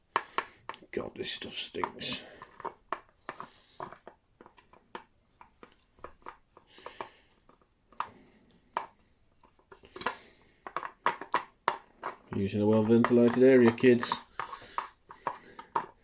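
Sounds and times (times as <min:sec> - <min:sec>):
brush scrubbing: 0:00.0 - 0:16.0.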